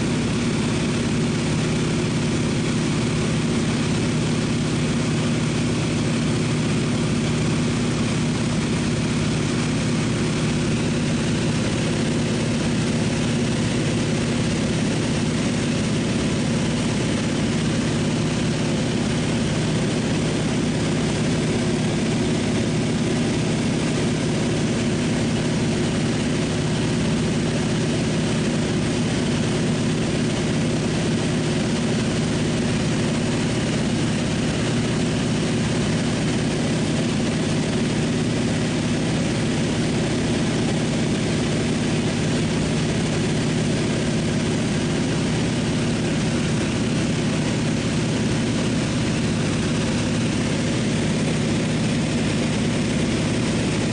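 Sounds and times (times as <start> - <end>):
propeller engine drone in cabin: 0.0 - 53.9.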